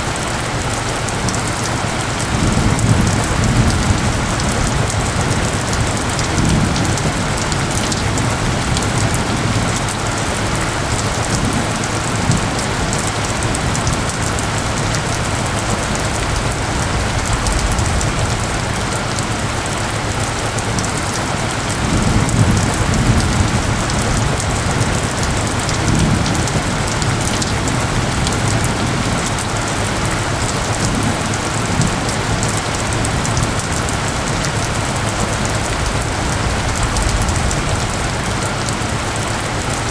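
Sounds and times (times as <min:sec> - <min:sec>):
faint steady tone: 0:00.0 - 0:39.9
heavy rain on forest: 0:00.0 - 0:39.9
distant thunder rumbles: 0:00.1 - 0:39.9.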